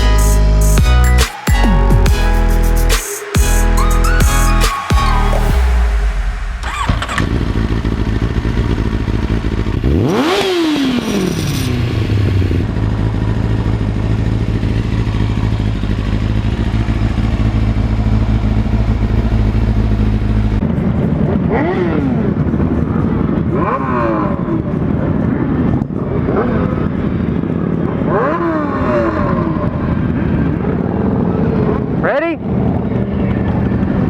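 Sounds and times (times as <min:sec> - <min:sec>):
motorcycle engine revving: 0:01.6 - 0:34.0.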